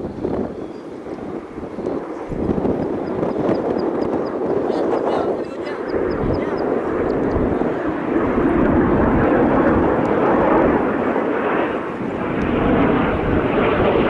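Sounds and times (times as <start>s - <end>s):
jet engine rush: 0.0s - 14.0s.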